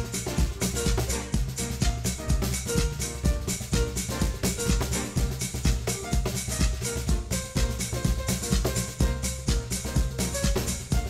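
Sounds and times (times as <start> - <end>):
backing track with pitched notes: 0.0 - 11.0
cajon hand drumming: 0.0 - 11.0.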